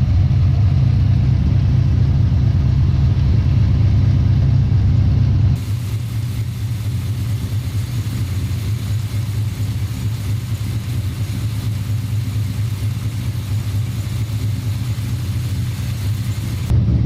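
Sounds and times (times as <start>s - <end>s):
car engine running with slight tick: 0.0s - 16.8s.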